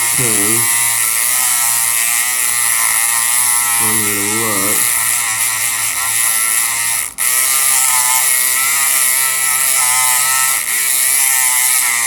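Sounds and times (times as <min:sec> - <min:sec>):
electric pick gun buzzing: 0:00.0 - 0:12.0.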